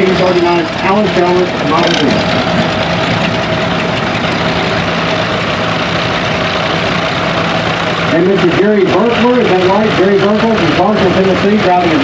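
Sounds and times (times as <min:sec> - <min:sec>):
tractor engines droning: 0:00.0 - 0:12.0.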